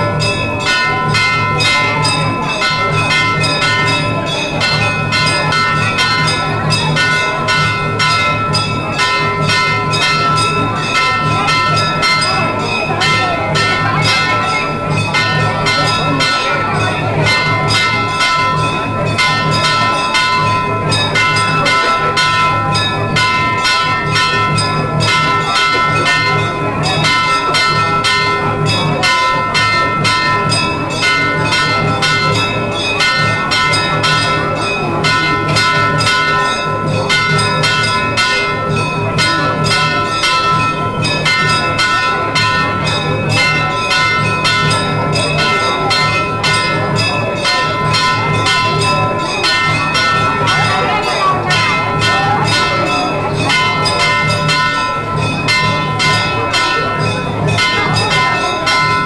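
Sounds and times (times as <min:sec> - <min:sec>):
temple bells ringing: 0:00.0 - 0:59.0.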